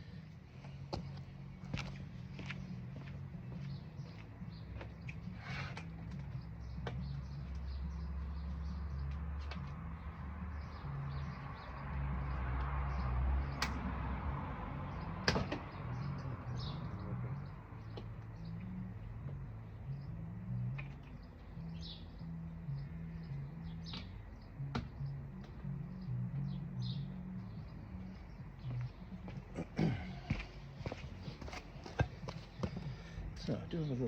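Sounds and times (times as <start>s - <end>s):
birds chirping: 0.0s - 14.0s, 14.7s - 34.0s.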